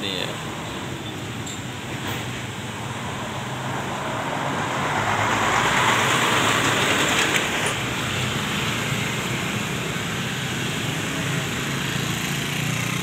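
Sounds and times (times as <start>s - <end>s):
motorcycles passing: 0.0s - 13.0s
truck driving past: 0.2s - 13.0s.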